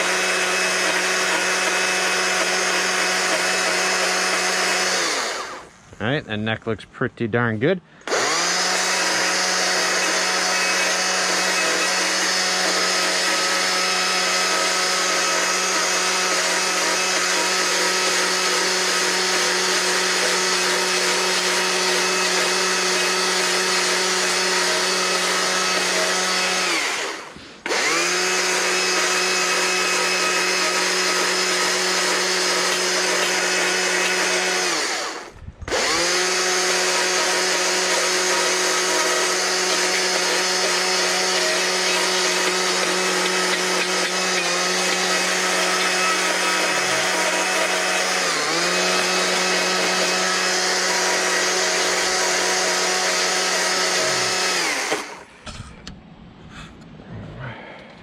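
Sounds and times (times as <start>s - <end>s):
die grinder running: 0.0s - 5.9s, 8.0s - 55.6s.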